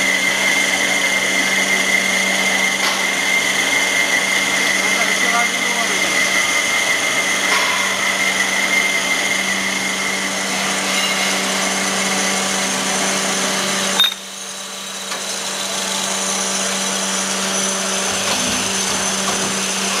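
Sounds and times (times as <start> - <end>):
band saw cutting steel: 0.0 - 20.0.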